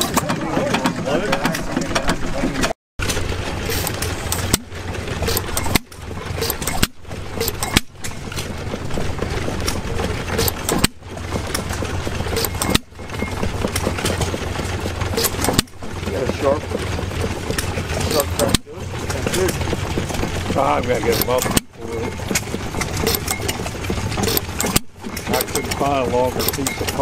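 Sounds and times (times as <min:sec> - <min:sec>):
small gas engine running: 0:00.0 - 0:27.0.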